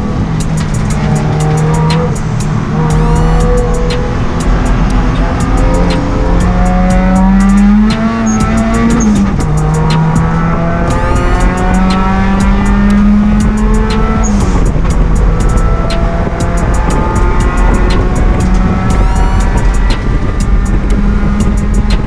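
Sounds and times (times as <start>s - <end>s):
car engine at high revs: 0.0s - 22.0s
sharp ticks: 0.0s - 22.0s.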